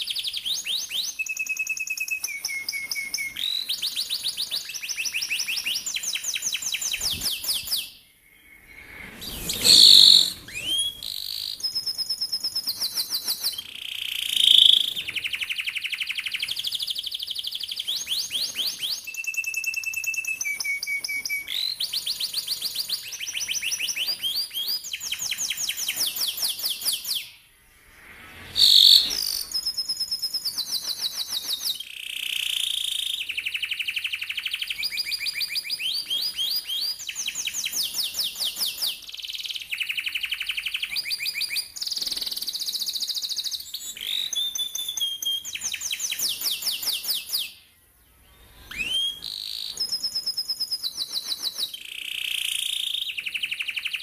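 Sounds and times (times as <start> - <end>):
canary singing trills: 0.0 - 27.4, 28.6 - 47.6.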